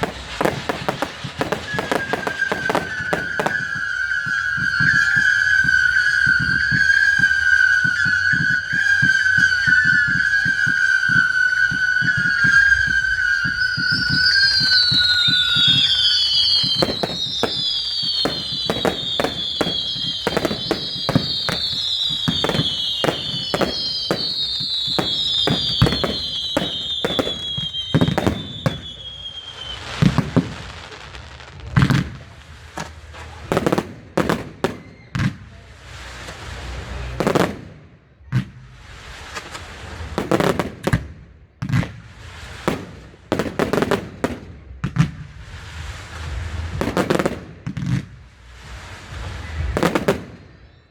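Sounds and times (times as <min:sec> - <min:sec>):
fireworks bangs and crackle: 0:00.0 - 0:50.9
fireworks whistling: 0:00.0 - 0:50.9.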